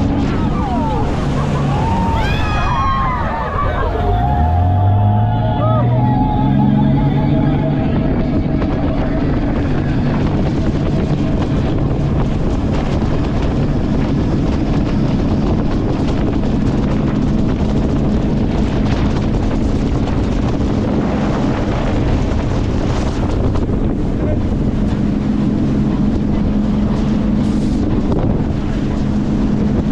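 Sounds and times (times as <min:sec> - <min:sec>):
boat engine drone: 0:00.0 - 0:29.9
rushing water and spray: 0:00.0 - 0:29.9
wind buffeting microphone: 0:00.0 - 0:29.9.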